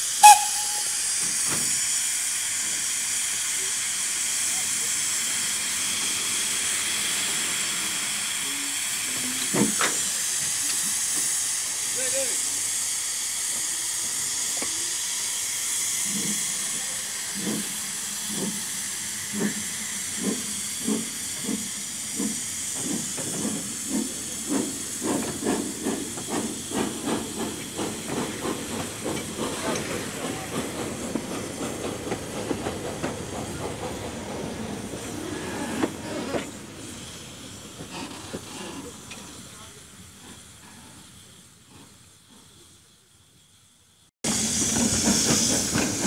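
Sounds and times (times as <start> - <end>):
steam locomotive exhaust chuffs: 0.0 - 46.0
steam locomotive hissing steam: 0.0 - 46.0.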